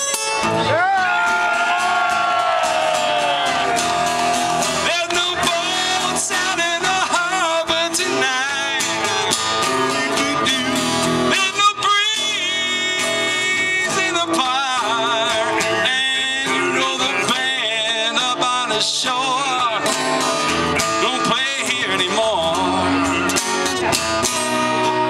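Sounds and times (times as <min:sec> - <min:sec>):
lead guitar solo: 0:00.0 - 0:25.0
live blues band playing: 0:00.0 - 0:25.0.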